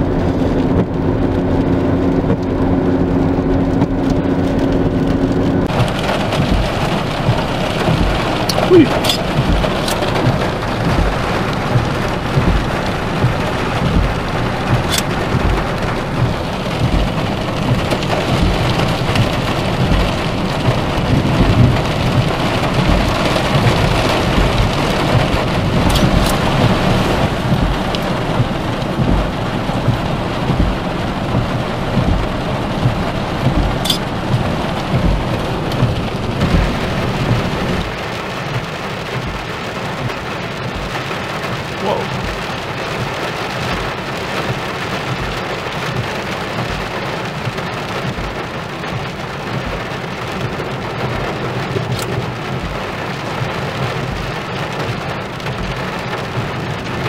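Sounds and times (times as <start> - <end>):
heavy rain on car roof: 0.0 - 57.0
raindrop ticks: 0.0 - 57.0.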